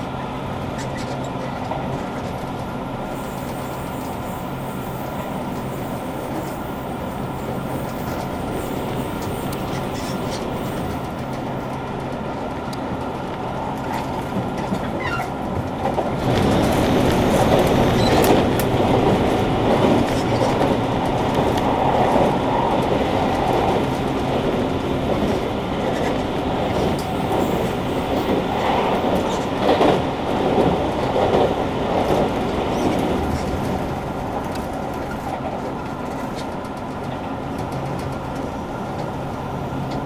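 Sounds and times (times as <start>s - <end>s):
clickety-clack over rail joints: 0.0s - 40.0s
train wheels rumbling on rails: 0.0s - 40.0s.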